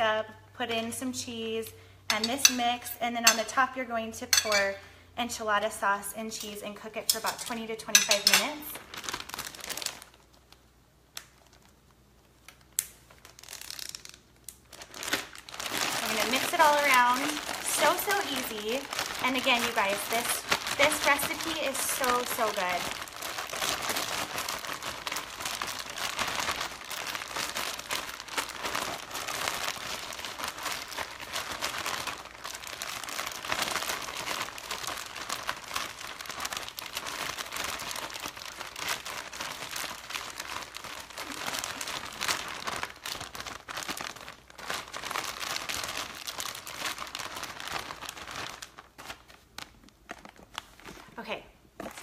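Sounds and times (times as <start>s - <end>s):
plastic bag crinkling: 6.4s - 51.2s.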